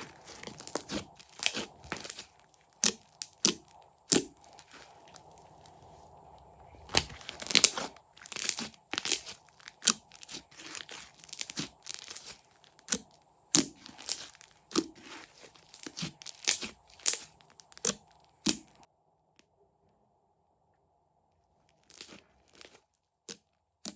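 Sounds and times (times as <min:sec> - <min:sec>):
slime crackling and popping: 0:00.0 - 0:05.9, 0:06.8 - 0:18.9, 0:21.7 - 0:23.9.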